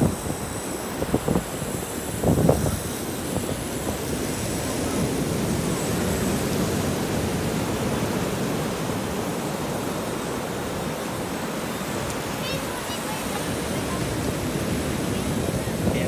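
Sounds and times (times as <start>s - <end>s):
ocean surf washing up beach: 0.0s - 16.0s.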